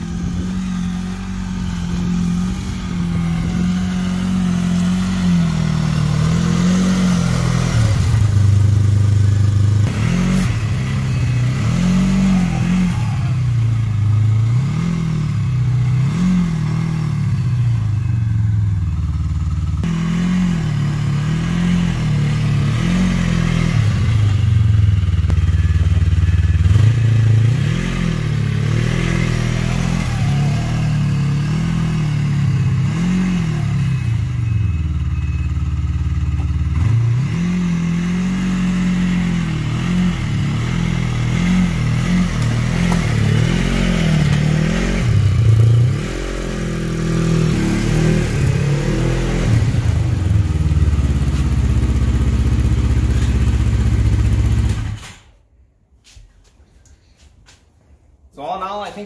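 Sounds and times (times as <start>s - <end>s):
snowmobile engine revving: 0.0s - 18.3s, 19.8s - 35.4s, 36.7s - 55.1s.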